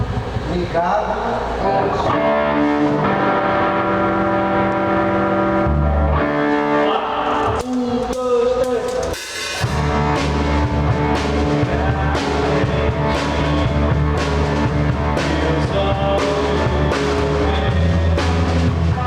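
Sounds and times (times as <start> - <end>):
electric guitar notes: 1.4 - 19.0
rock band playing live: 1.8 - 19.0.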